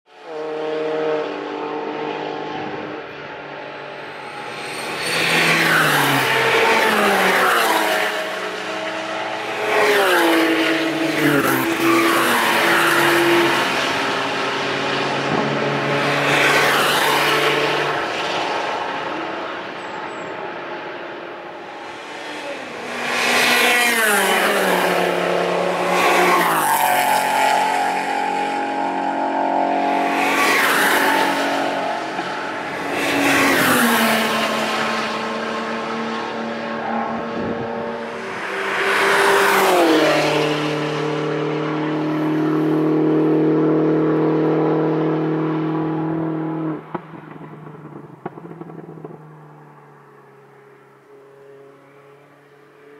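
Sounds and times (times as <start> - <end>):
cars passing fast: 0.1 - 52.9.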